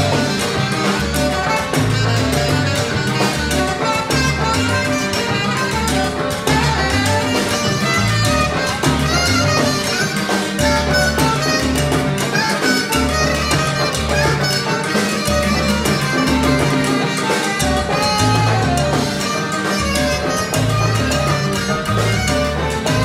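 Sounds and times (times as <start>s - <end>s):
conga drums: 0.0s - 23.0s
horns: 0.0s - 23.0s
salsa band playing: 0.0s - 23.0s.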